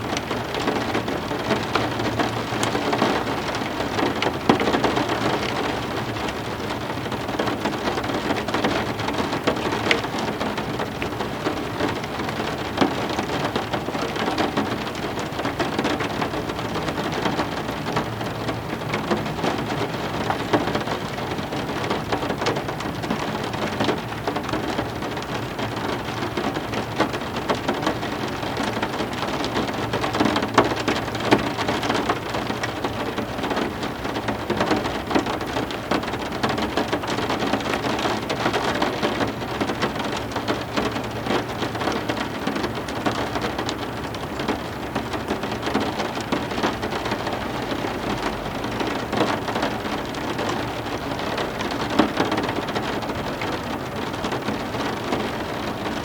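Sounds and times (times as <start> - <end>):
heavy rain splashing: 0.0 - 56.0.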